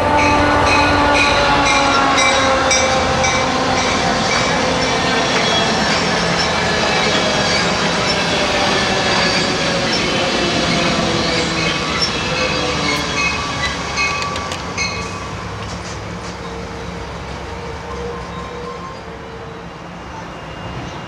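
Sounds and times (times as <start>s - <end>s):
train wheels rumbling on rail: 0.0s - 21.0s
high wheel squeals: 0.2s - 21.0s.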